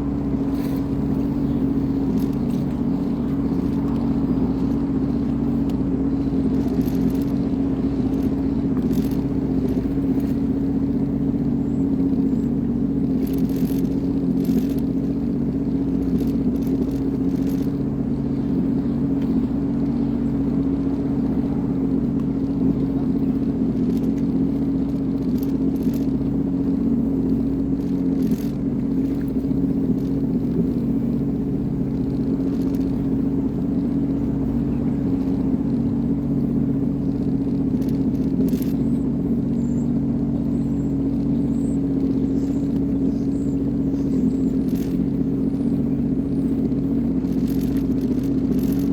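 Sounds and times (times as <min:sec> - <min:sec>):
watercraft engine running: 0:00.0 - 0:48.9.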